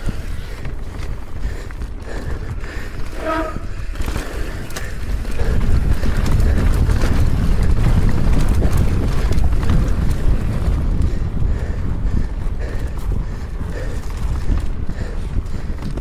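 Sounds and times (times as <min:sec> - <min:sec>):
bike rattling over rocks: 0:00.0 - 0:16.0
wind buffeting microphone: 0:00.0 - 0:16.0.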